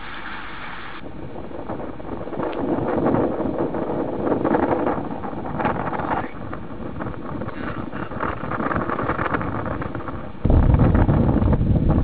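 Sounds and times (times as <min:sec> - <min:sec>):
wind buffeting microphone: 0:00.9 - 0:12.0
deep rumble: 0:01.0 - 0:12.0.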